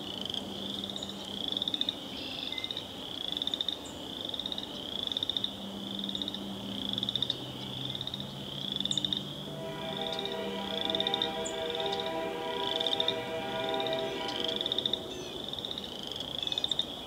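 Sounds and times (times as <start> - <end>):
frogs trilling: 0.2 - 17.0.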